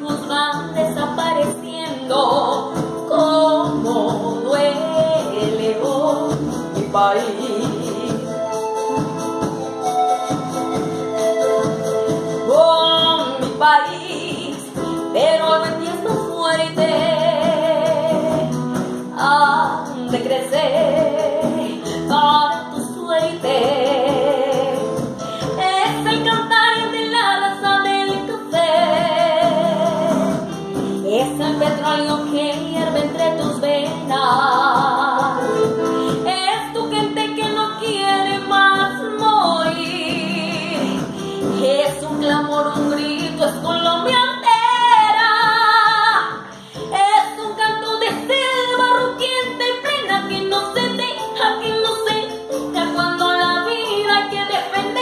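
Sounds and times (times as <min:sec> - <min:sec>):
instrumental accompaniment: 0:00.0 - 0:55.0
woman singing with vibrato: 0:00.0 - 0:55.0.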